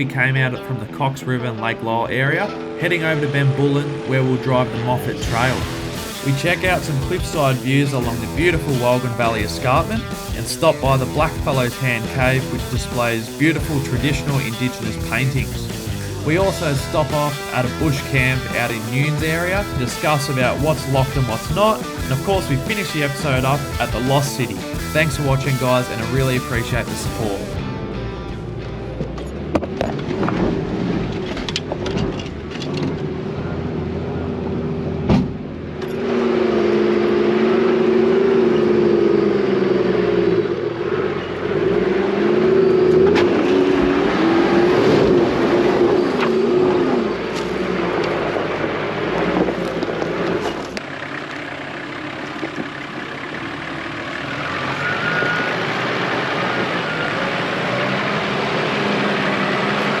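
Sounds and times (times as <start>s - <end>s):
off-road vehicle engine revving: 2.6s - 27.6s, 35.7s - 60.0s.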